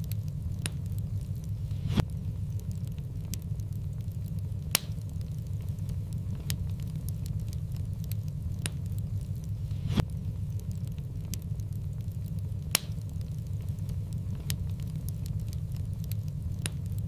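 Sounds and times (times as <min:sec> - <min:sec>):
fire crackles and pops: 0:00.0 - 0:17.0
wood fire rumbling: 0:00.0 - 0:17.0.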